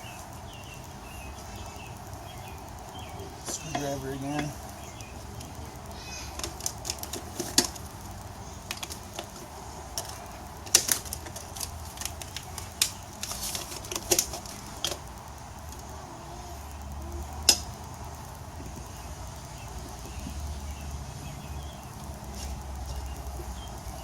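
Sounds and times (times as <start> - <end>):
tire irons clicking on wheel rim: 0.0 - 24.0.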